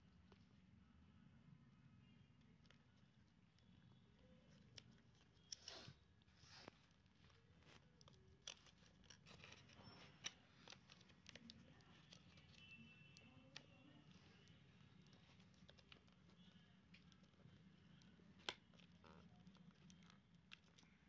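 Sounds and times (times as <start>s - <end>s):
fingers clicking and crinkling cable: 2.2s - 21.0s.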